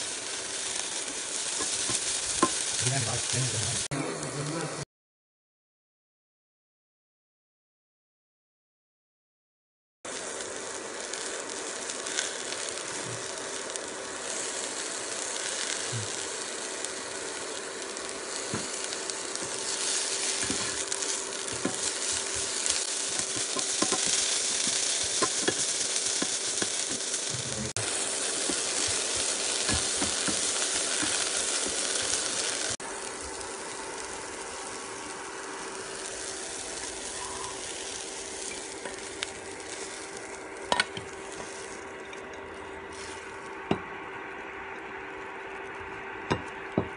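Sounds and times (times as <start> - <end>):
food sizzling in oil: 0.0 - 4.8, 10.1 - 46.9.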